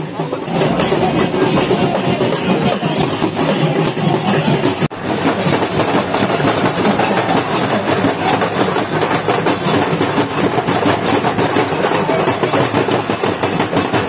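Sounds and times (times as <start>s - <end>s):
bass drum and snare drums: 0.0s - 14.0s.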